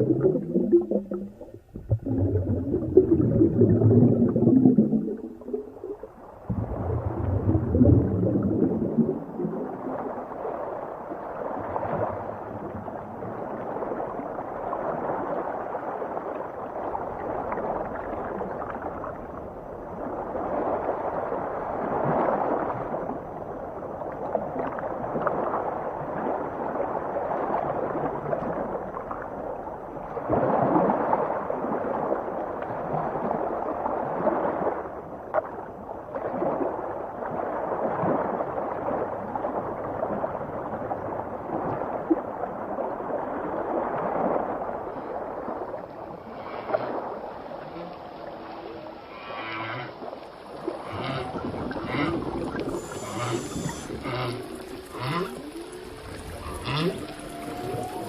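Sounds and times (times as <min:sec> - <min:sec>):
underwater gurgling water: 0:00.0 - 0:58.0.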